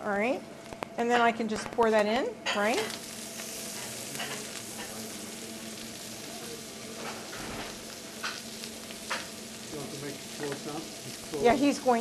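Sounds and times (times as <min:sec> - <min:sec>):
onions sizzling in a frying pan: 0:01.0 - 0:12.0.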